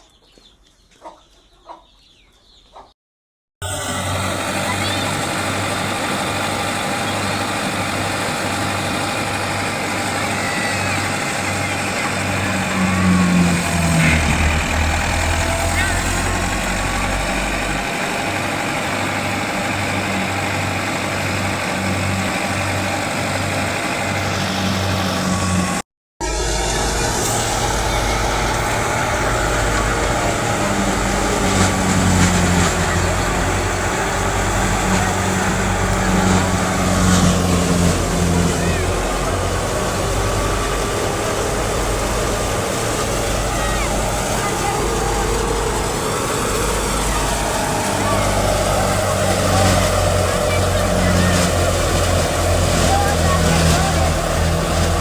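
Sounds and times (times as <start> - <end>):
farm machine engine running: 3.6 - 55.0.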